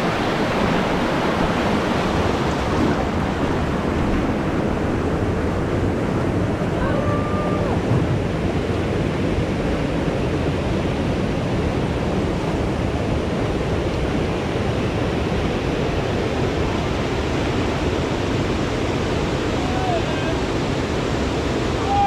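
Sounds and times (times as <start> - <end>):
fast-flowing river water: 0.0 - 22.0.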